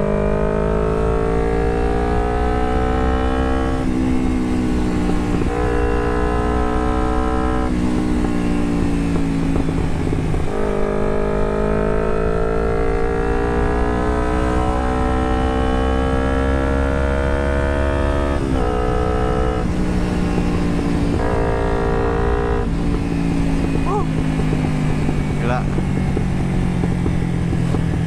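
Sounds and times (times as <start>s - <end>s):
motorcycle exhaust note: 0.0s - 28.0s.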